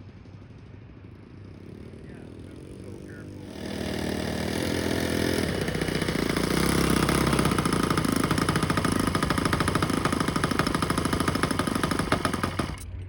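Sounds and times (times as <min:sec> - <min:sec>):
model airplane engine running: 0:00.6 - 0:12.9.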